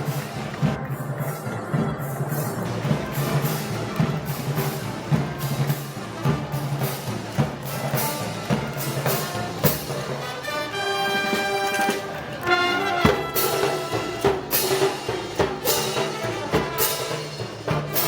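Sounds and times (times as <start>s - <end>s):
drums playing march rhythm: 0.0s - 18.0s
brass chords: 2.6s - 18.0s.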